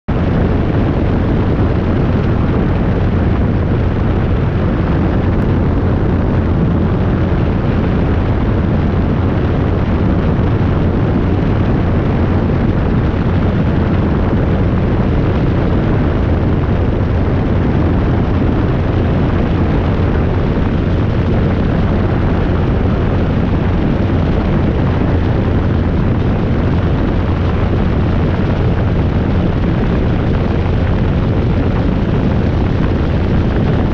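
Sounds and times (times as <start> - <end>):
helicopter rotor and engine drone: 0.1 - 33.9
wind buffeting microphone: 0.1 - 33.9.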